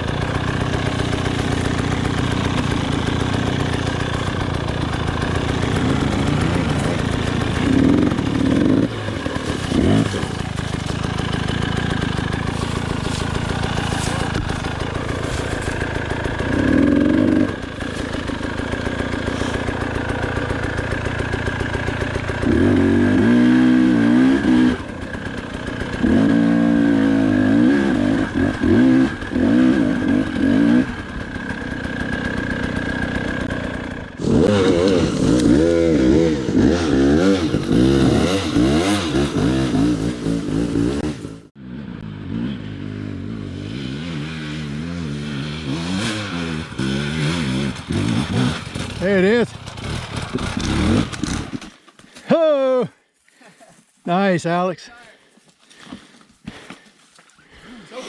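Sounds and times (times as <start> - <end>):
dirt bike engine revving: 0.0 - 51.7.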